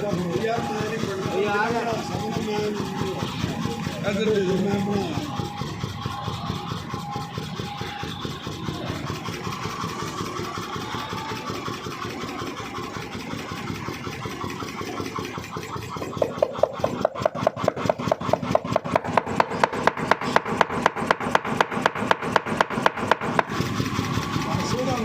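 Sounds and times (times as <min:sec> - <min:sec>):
forging hammer motor running: 0:00.0 - 0:25.0.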